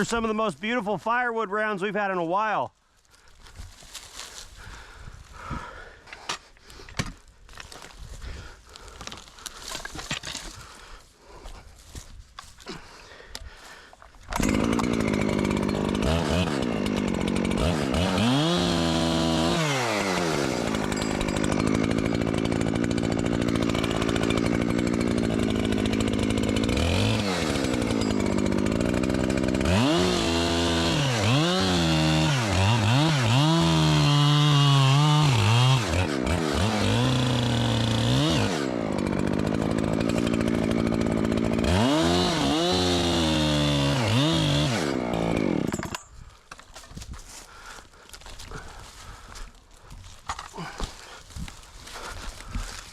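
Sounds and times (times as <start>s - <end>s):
chainsaw cutting wood: 8.6s - 10.9s, 12.4s - 52.9s.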